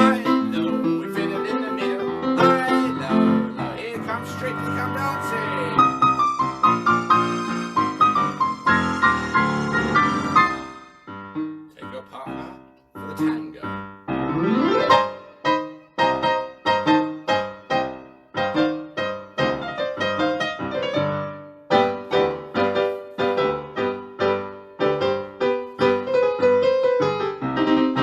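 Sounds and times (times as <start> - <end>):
keyboard playing tango chords: 0.0 - 28.0.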